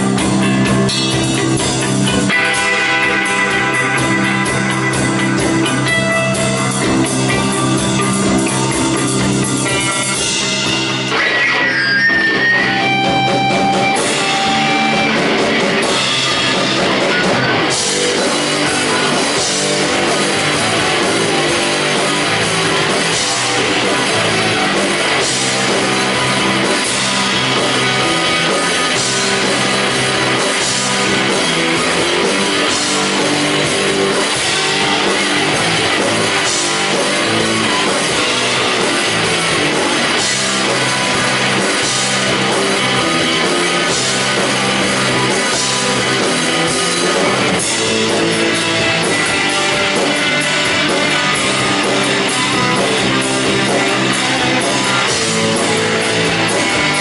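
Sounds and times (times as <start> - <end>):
drum and cymbal hits: 0.0 - 57.0
rock band playing: 0.0 - 57.0.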